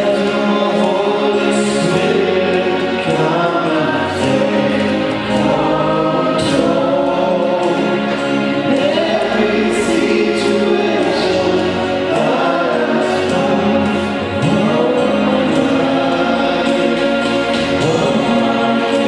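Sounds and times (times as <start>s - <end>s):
group singing gospel song: 0.0s - 19.0s.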